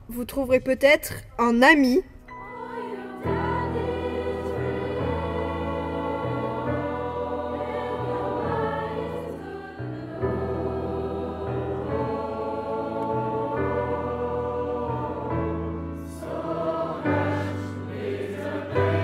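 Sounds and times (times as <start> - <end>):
choir singing held notes: 2.3 - 19.0.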